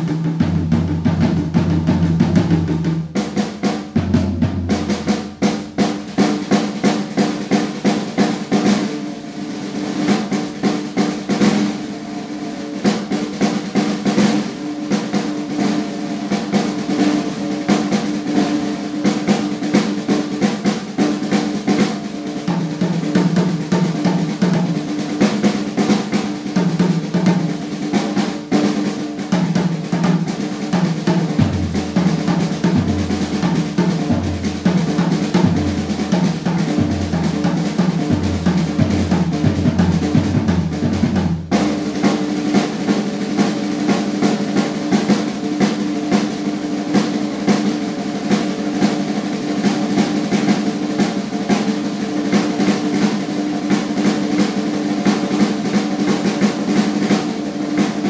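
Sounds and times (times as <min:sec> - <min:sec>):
drum kit solo: 0:00.0 - 0:58.0.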